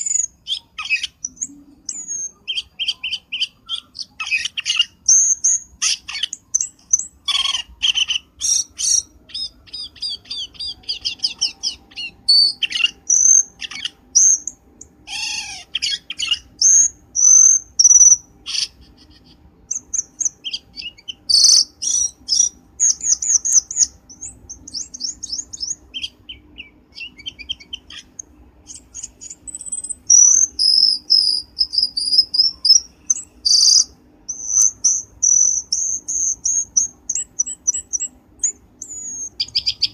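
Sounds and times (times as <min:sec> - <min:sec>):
bird chirps and trilling whistles: 0:00.0 - 0:39.9.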